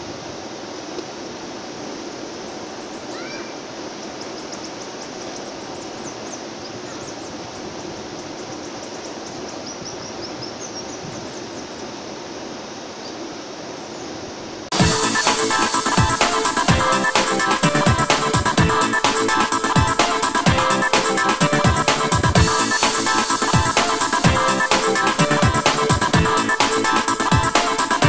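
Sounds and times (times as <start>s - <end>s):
rushing outdoor noise: 0.0s - 28.0s
birds chirping: 2.0s - 28.0s.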